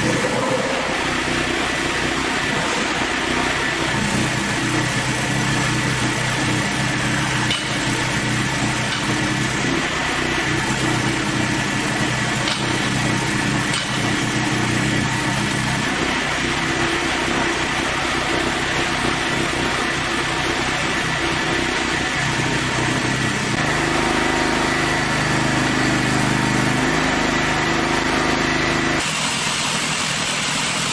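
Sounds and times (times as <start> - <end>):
sawmill engine running: 0.0 - 30.9.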